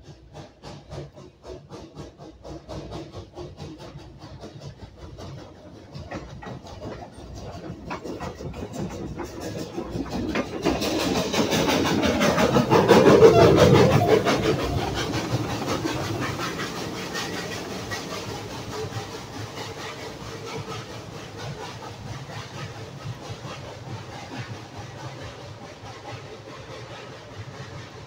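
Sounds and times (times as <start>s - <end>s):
steam hiss: 0.0s - 28.0s
steam locomotive chuffing: 0.0s - 28.0s.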